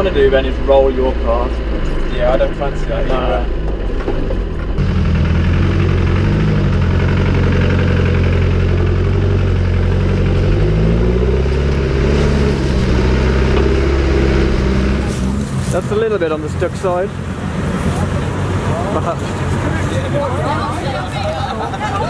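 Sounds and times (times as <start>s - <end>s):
truck engine running at low revs: 0.0s - 22.0s.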